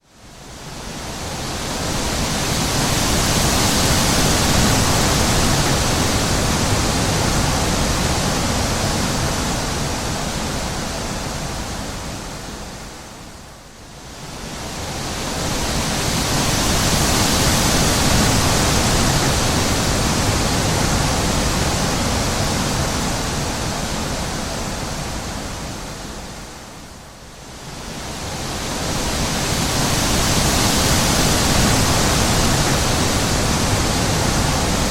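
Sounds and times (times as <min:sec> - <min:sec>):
wind blowing in gusts: 0:00.1 - 0:34.9.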